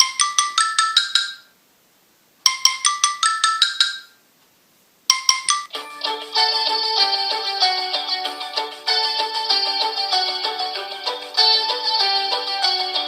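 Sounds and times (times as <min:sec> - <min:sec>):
bright mallet ringtone: 0:00.0 - 0:01.5, 0:02.5 - 0:04.2, 0:05.1 - 0:13.0
fuller ringtone melody: 0:00.0 - 0:01.5, 0:02.5 - 0:04.1, 0:05.1 - 0:13.0.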